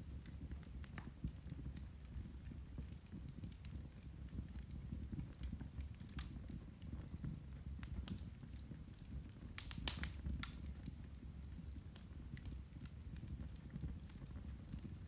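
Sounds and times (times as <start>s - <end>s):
low steady fire rumble: 0.0s - 15.0s
peat fire crackling and popping: 0.0s - 15.0s.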